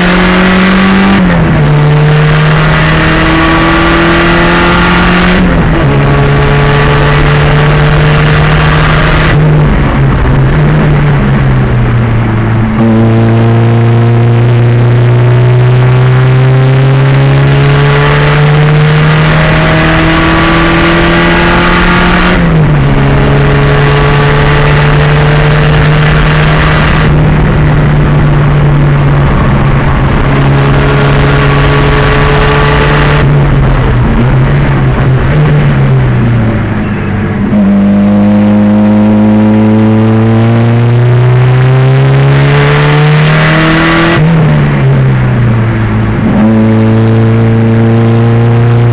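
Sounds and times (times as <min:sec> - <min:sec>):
race car engine accelerating: 0:00.0 - 0:48.9.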